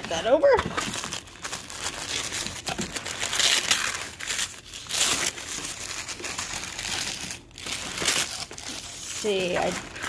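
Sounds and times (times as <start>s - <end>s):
packing paper crinkling and rustling: 0.0s - 10.0s.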